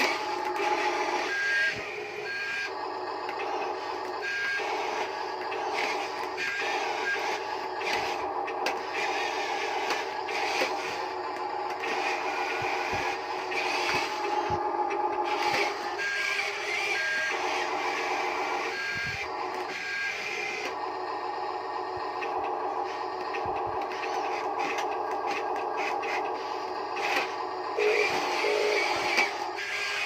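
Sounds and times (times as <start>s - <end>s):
electric motors whirring: 0.0s - 30.0s.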